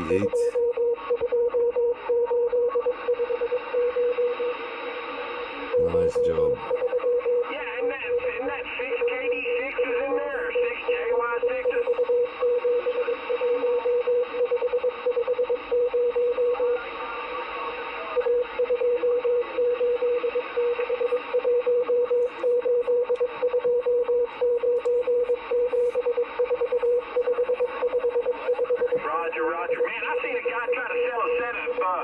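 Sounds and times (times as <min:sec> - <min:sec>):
radio static: 0:00.0 - 0:00.6, 0:02.6 - 0:32.0
morse code tone: 0:00.0 - 0:04.6, 0:05.7 - 0:32.0.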